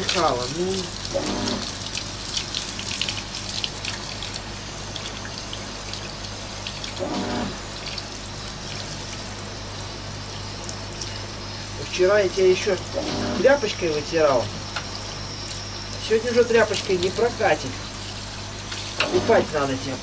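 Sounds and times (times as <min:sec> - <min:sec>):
shower spraying water: 0:00.0 - 0:20.0.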